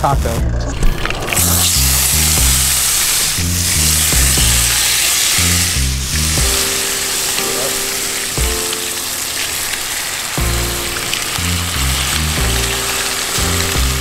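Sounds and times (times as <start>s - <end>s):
background music low notes: 0.0s - 14.0s
fish sizzling in a pan: 1.0s - 14.0s.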